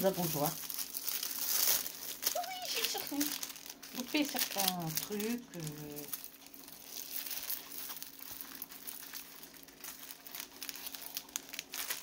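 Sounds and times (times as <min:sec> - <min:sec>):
faint steady hum: 0:00.0 - 0:12.0
plastic wrapping crinkling: 0:00.0 - 0:12.0.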